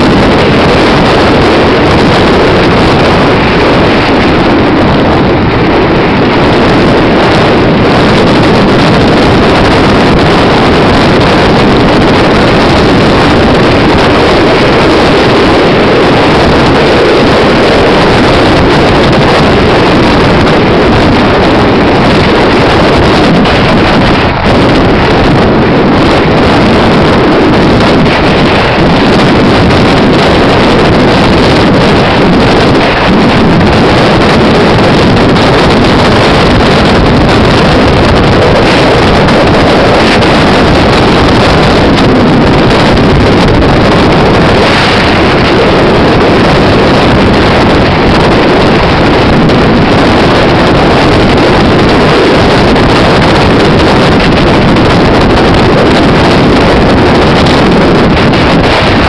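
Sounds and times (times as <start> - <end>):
engine drone: 0.0 - 59.0
road noise: 0.0 - 59.0
wind rushing over microphone: 0.0 - 59.0.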